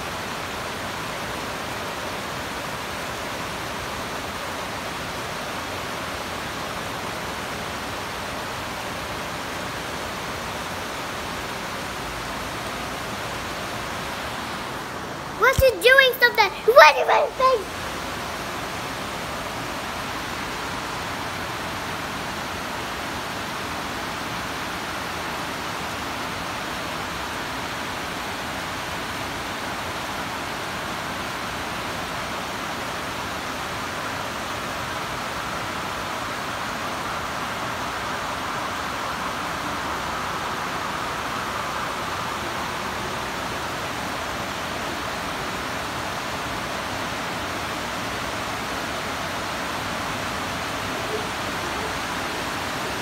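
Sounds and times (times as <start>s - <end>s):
rain pouring: 0.0s - 53.0s.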